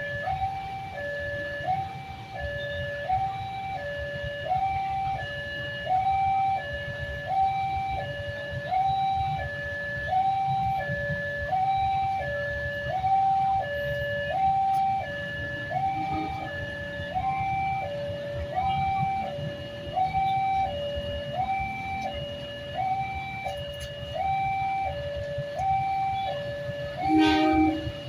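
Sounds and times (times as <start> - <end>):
level crossing two-tone siren: 0.0 - 28.0.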